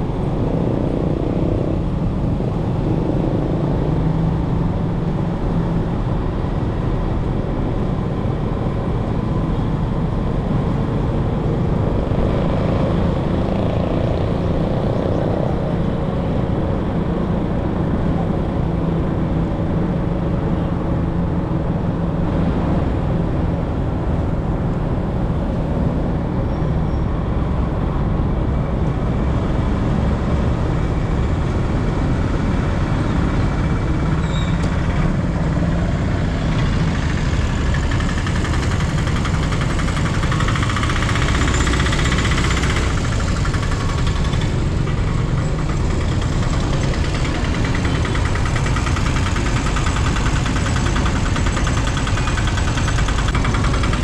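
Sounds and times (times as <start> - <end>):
road and wind noise: 0.0 - 54.0
vehicle engine running: 0.0 - 54.0.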